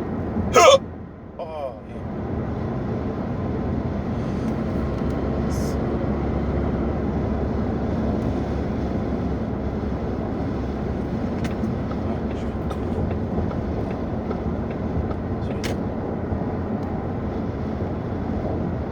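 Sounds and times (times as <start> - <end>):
car road and engine noise: 0.0 - 18.9.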